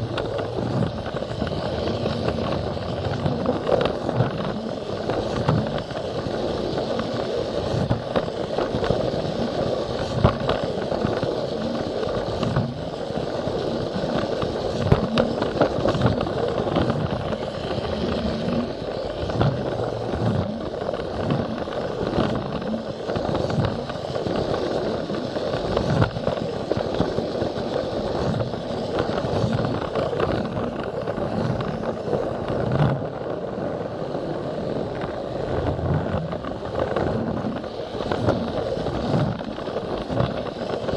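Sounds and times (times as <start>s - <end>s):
toy train motor whirring: 0.0s - 34.0s
plastic wheels rattling on track: 0.0s - 40.9s.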